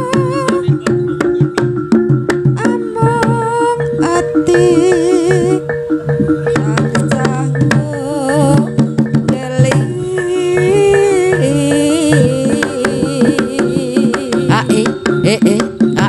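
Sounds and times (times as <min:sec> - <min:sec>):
drums beating quick pattern: 0:00.0 - 0:16.0
wavering melody line: 0:00.0 - 0:16.0.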